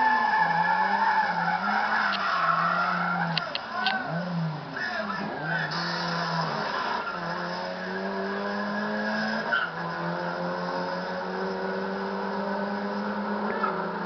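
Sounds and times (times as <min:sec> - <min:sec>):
race car engine accelerating: 0:00.0 - 0:14.0.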